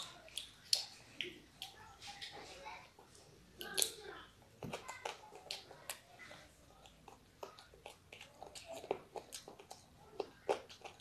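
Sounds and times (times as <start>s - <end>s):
child chewing and mouth smacks: 0.0s - 11.0s.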